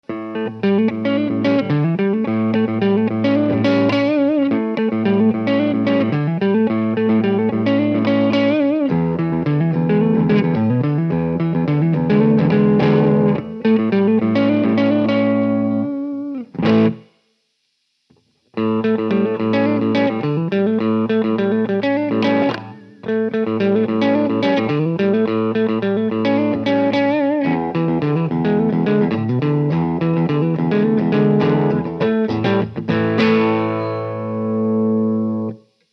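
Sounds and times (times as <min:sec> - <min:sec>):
clean electric guitar riff: 0:00.0 - 0:17.2, 0:18.1 - 0:35.8.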